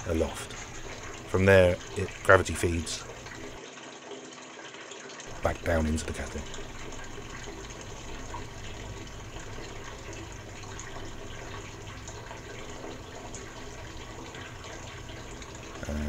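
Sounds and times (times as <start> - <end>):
pump humming: 0.0 - 3.6, 5.3 - 16.0
water pouring into kettle: 0.0 - 16.0.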